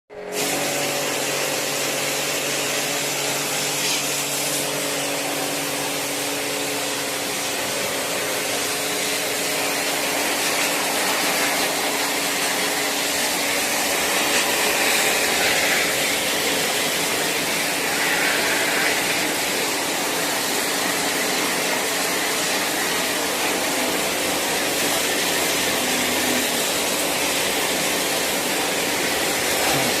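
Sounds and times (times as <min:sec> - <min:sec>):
pressure washer motor hum: 0:00.1 - 0:30.0
water spray hissing: 0:00.3 - 0:30.0.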